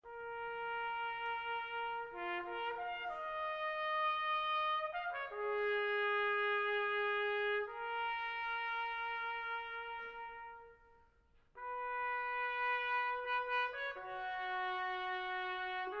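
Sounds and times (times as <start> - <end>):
brass ensemble playing chords: 0.0 - 16.0.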